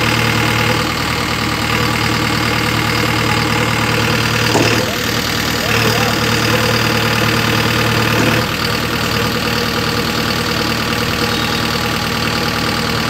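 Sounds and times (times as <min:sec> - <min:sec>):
engine idling with rapid knock: 0:00.0 - 0:13.0.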